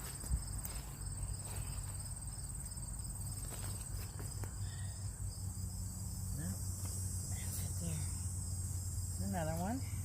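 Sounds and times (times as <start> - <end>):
crickets trilling: 0.0 - 10.0
low steady hum: 0.0 - 10.0.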